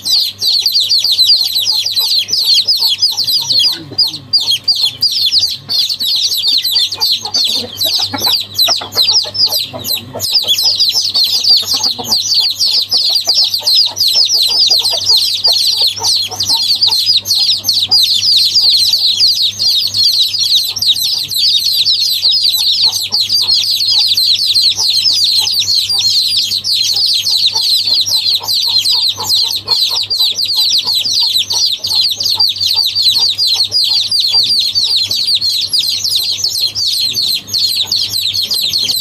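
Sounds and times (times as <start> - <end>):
small birds chirping: 0.0 - 39.0
steady low hum: 0.0 - 39.0.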